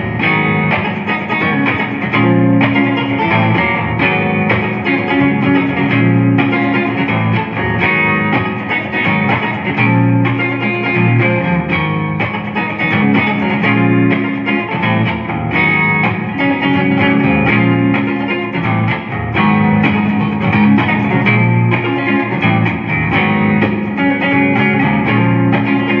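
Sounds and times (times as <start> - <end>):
clean electric guitar playing: 0.0 - 26.0.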